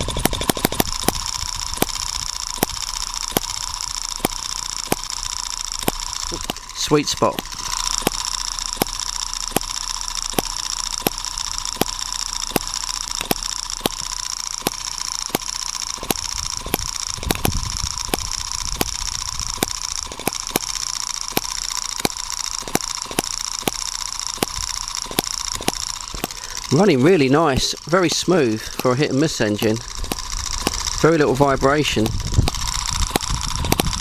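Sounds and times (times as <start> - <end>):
model engine ticking: 0.0 - 34.0.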